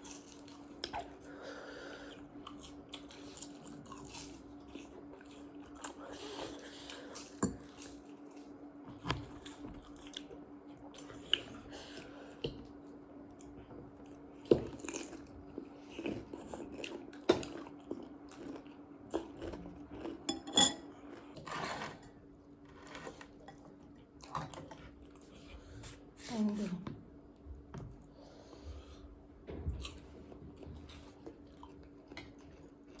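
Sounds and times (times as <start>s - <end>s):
chewing and crunching food: 0.0s - 26.1s, 29.7s - 33.0s.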